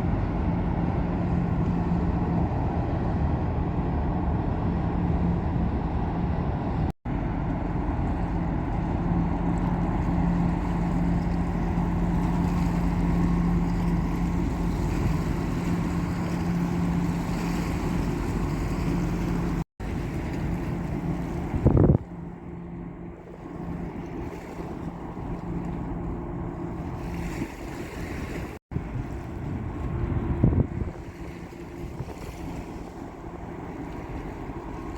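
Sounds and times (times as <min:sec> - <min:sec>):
ship engine drone: 0:00.0 - 0:34.9
water noise: 0:00.0 - 0:34.9
wind: 0:00.0 - 0:34.9.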